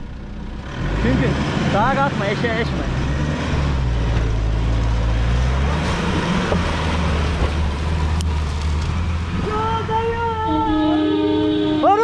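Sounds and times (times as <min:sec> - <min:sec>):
pickup engine under load: 0:00.0 - 0:10.1.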